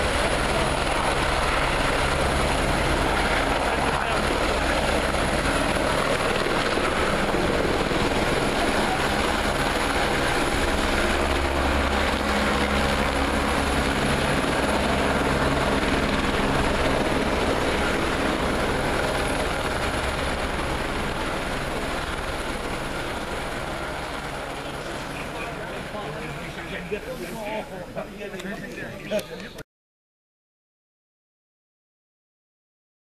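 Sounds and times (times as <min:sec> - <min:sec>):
helicopter turbine and rotor: 0:00.0 - 0:29.1.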